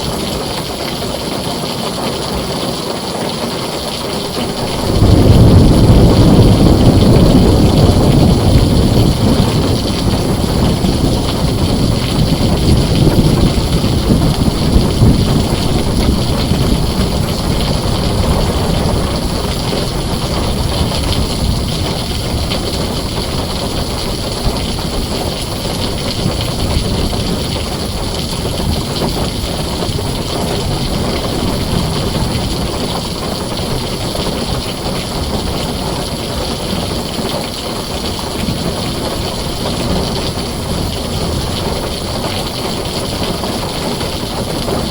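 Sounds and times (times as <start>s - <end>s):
rain drumming on a tin roof: 0.0s - 44.9s
thunder rumble: 4.1s - 44.9s.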